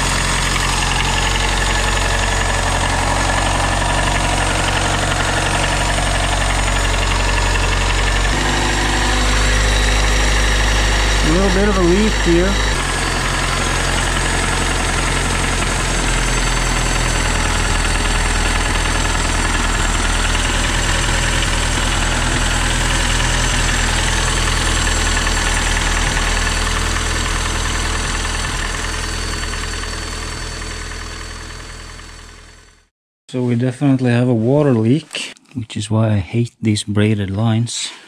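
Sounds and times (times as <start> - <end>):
turbocharged car engine idling: 0.0 - 32.9.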